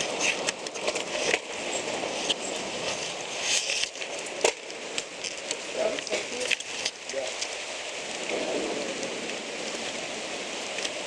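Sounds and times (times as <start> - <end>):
bicycles pushed over rocks: 0.0 - 11.0
steady hiss: 0.0 - 11.0.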